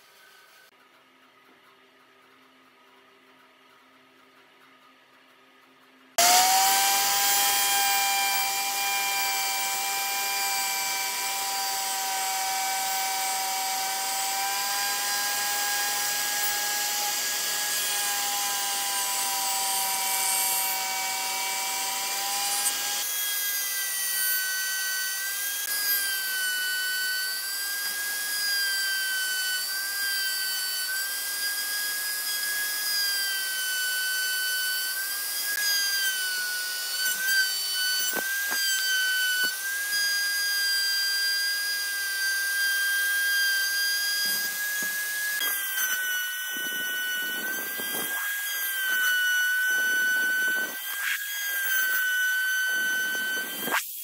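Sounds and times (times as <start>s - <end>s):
router whining cutting wood: 6.2s - 54.0s.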